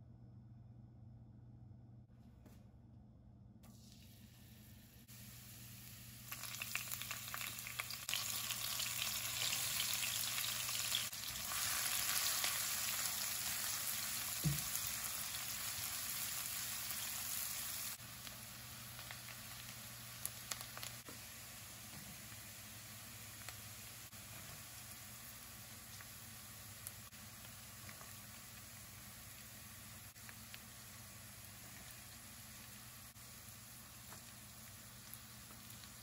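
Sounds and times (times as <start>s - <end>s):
food sizzling in hot oil: 3.8s - 36.0s.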